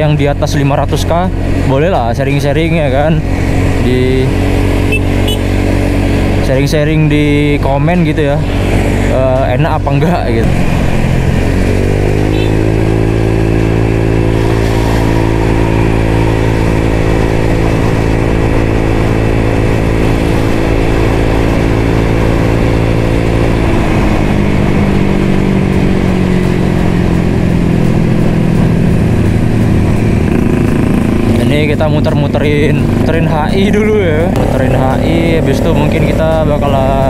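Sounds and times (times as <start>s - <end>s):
scooter engine cruising: 0.0s - 37.0s.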